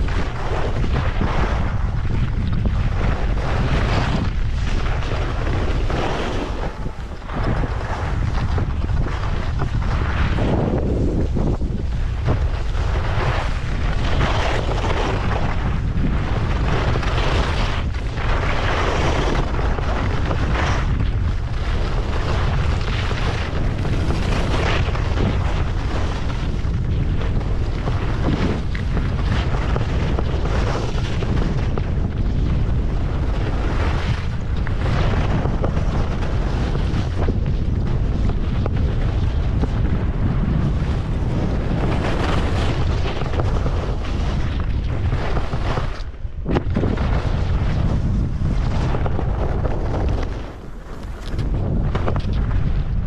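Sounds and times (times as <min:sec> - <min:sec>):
skis scraping on snow: 0:00.0 - 0:53.0
wind buffeting microphone: 0:00.0 - 0:53.0.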